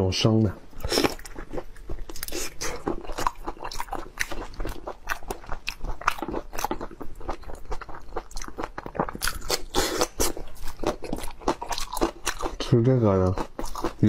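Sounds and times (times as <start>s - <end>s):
chewing and crunching: 0.8s - 14.0s.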